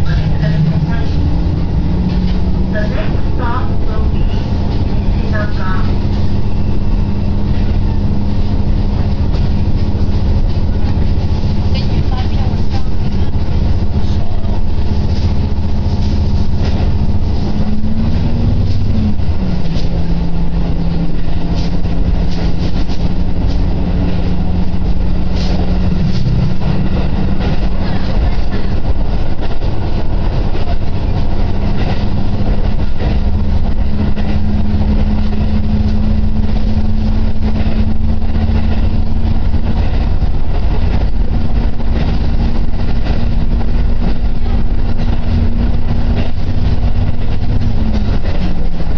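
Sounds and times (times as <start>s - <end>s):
diesel engine drone: 0.0s - 48.9s
railcar rumbling: 0.0s - 48.9s.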